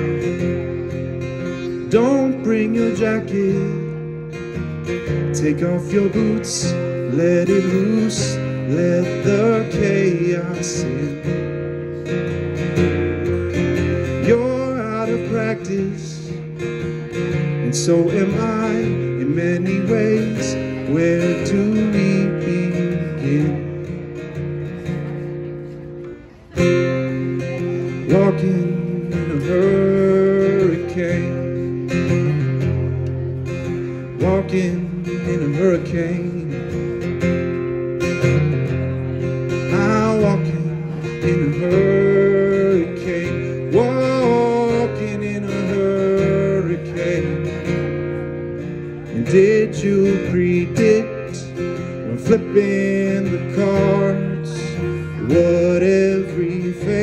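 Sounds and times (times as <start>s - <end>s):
man singing: 0.0s - 25.4s, 26.5s - 57.0s
acoustic guitar strumming: 0.0s - 57.0s.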